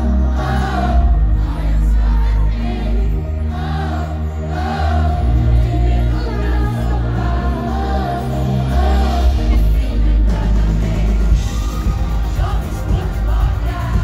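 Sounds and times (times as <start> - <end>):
live pop band: 0.0 - 14.0
steady bass: 0.0 - 14.0.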